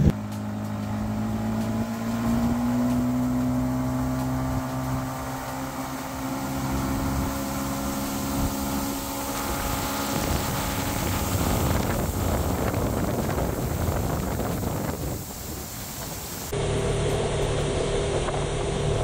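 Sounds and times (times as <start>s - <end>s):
outboard motor running: 0.0s - 19.0s
water rushing: 0.0s - 19.0s
wind rushing on microphone: 0.9s - 16.6s.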